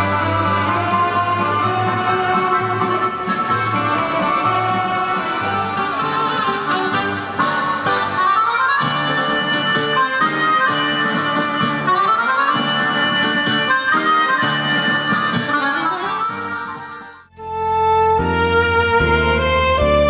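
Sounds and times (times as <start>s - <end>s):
backing track with bass: 0.0s - 20.0s
saxophone melody: 0.0s - 20.0s.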